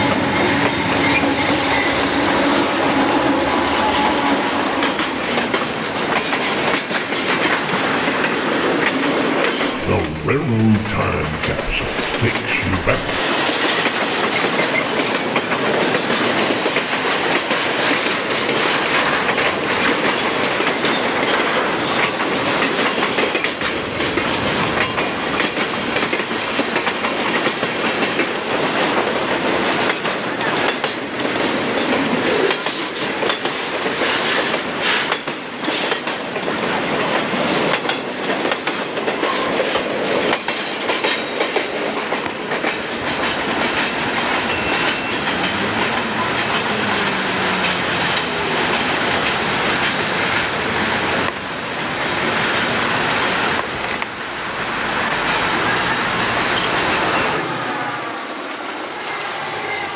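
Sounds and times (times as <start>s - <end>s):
wheels clickety-clack on rails: 0.0s - 9.8s, 13.2s - 58.8s
freight train rolling past: 0.0s - 59.9s.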